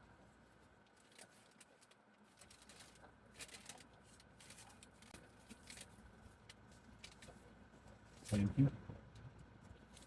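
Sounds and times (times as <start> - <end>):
soft clicks and rustles: 0.3 - 10.0.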